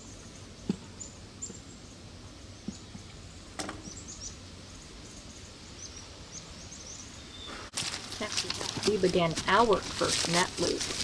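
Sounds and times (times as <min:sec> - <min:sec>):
outdoor background hiss: 0:00.0 - 0:11.0
songbirds chirping: 0:00.0 - 0:11.0.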